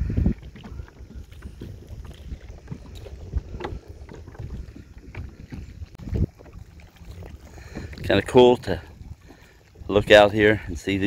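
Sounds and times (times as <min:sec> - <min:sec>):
water sloshing around hull: 0:00.0 - 0:11.0
wind on microphone: 0:00.0 - 0:11.0.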